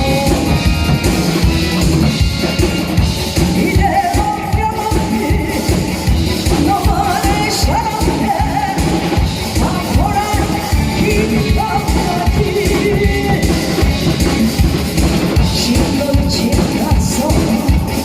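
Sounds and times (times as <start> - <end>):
person singing: 0.0 - 1.1, 3.3 - 14.5, 15.3 - 18.0
disco backing track with drums: 0.0 - 18.0.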